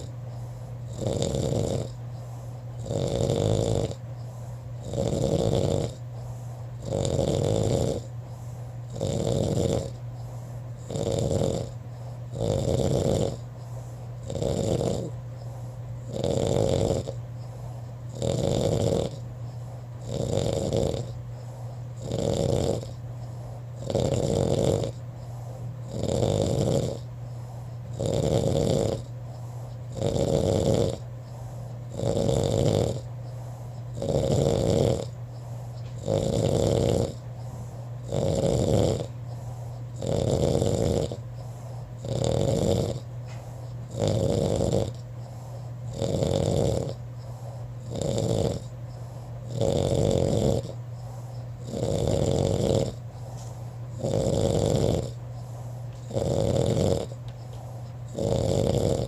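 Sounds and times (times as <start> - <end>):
person snoring: 0.0 - 59.0
steady low hum: 0.0 - 59.0.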